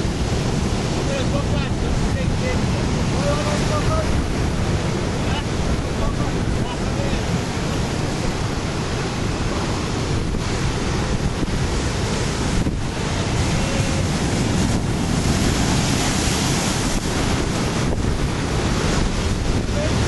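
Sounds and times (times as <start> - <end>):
surf breaking on rocks: 0.0 - 20.0
wind buffeting microphone: 0.0 - 20.0.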